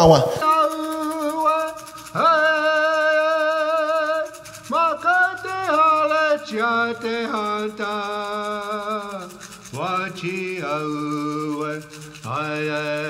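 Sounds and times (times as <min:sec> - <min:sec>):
person singing chant-like: 0:00.0 - 0:13.0
rattle shaken: 0:00.0 - 0:13.0.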